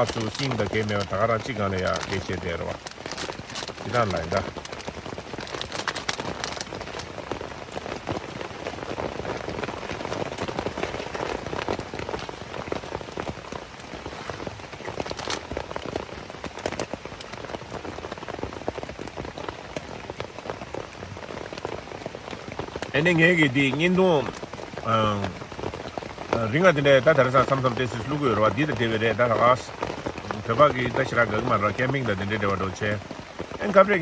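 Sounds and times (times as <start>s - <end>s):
heavy rain on a tent: 0.0s - 34.0s.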